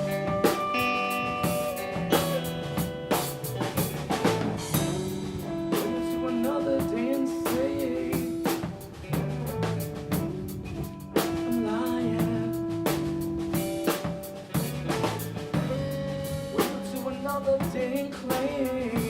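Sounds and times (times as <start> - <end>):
sustained electric guitar notes: 0.0 - 18.2
drum kit hits: 0.0 - 19.0.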